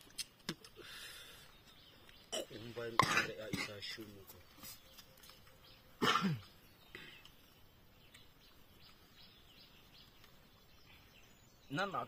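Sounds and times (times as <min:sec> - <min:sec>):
faint bird chirps: 0:00.2 - 0:12.0.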